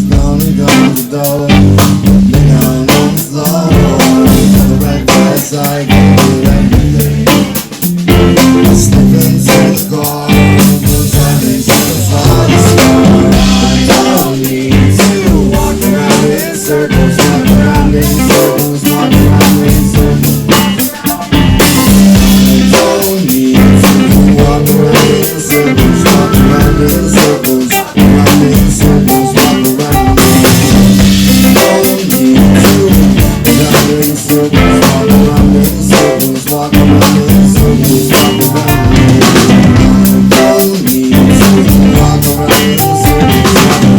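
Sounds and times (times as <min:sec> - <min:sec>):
drum rimshots: 0:00.0 - 0:43.9
live rock band playing: 0:00.0 - 0:43.9.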